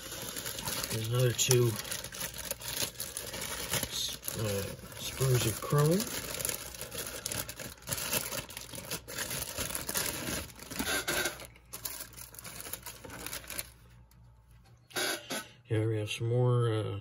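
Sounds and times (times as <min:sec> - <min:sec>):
plastic bag crinkling: 0:00.0 - 0:14.3.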